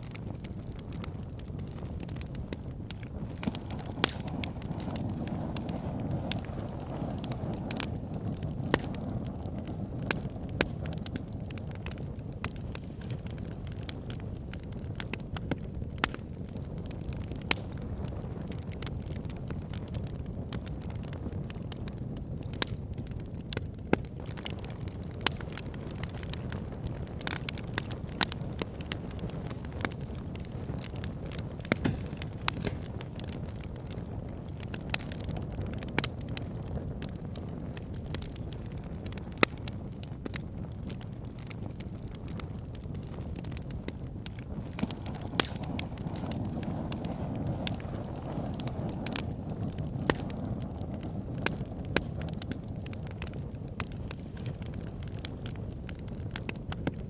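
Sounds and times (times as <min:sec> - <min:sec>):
fire crackles and pops: 0:00.0 - 0:57.0
wood fire burning: 0:00.0 - 0:57.0.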